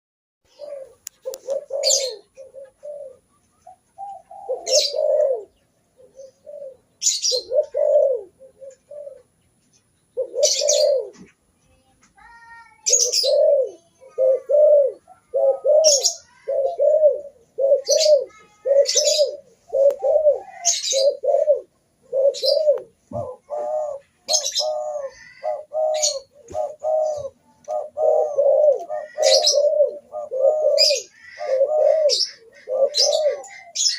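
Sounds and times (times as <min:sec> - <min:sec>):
doves cooing: 0:00.5 - 0:09.4, 0:10.1 - 0:11.4, 0:12.9 - 0:33.9.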